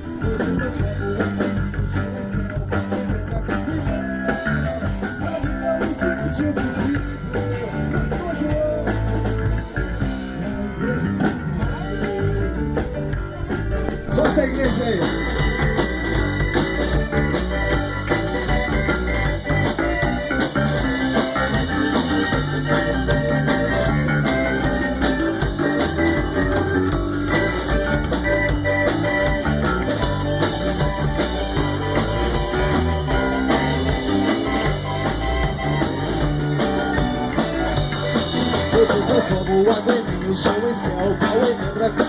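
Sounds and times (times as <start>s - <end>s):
growling electric bass: 0.0s - 42.0s
rock band recording: 0.0s - 42.0s.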